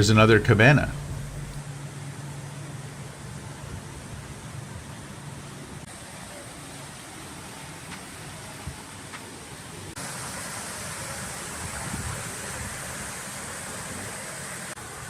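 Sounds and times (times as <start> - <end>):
steady rushing noise on ship deck: 0.0 - 15.0.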